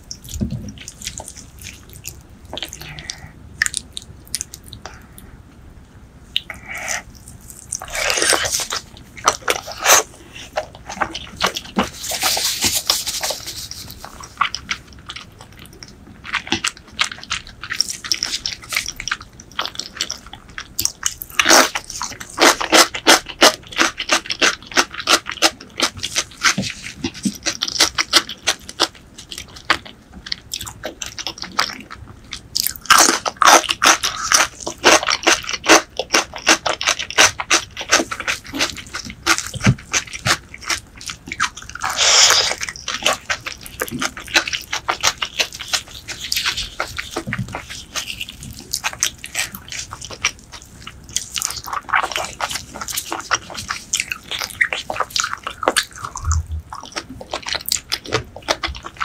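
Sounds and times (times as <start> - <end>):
wet chewing and crunching: 0.0 - 59.0.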